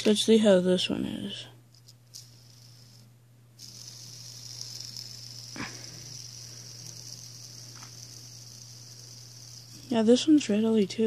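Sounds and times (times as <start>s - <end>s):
fidget spinner whirring: 0.0s - 11.0s.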